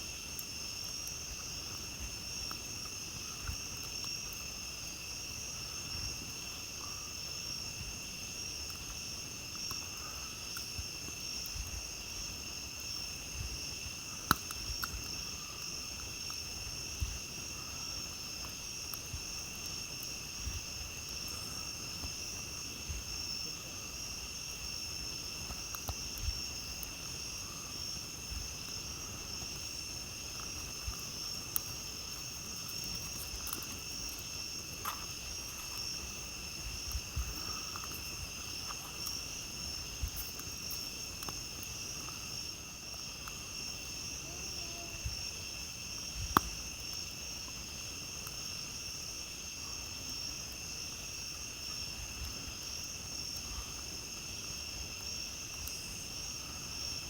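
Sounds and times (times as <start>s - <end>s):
campfire crackling: 0.0s - 57.0s
night insects chorus: 0.0s - 57.0s.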